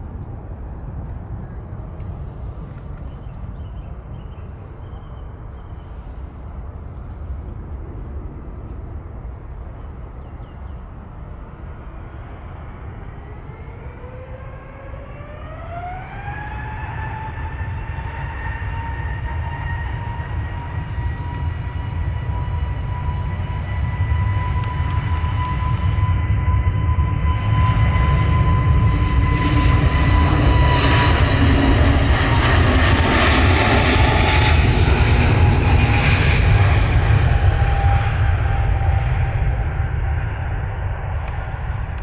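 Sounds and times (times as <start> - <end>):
jet engines whine spooling up: 0.0 - 42.0
low rumble: 0.0 - 42.0.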